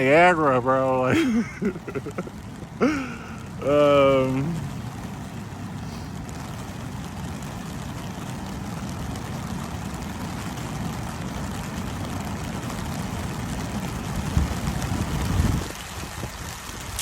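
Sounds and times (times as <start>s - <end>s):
runoff water rushing: 0.0s - 17.0s.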